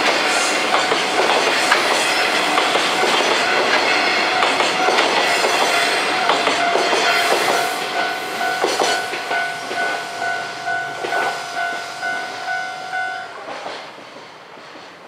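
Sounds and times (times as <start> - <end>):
crossing warning bell ringing: 0.0 - 13.7
train wheels clicking on rail joints: 0.0 - 15.0.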